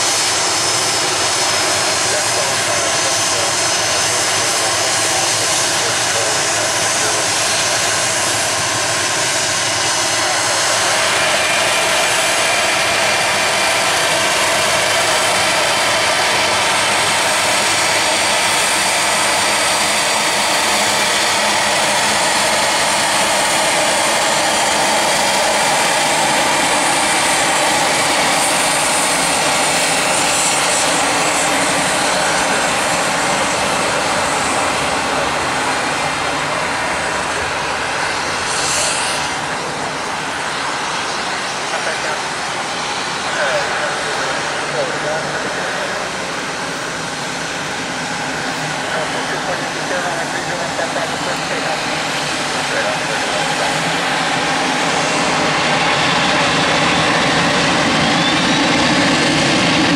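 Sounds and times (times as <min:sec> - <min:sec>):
jet engines running with high whine: 0:00.0 - 0:59.9.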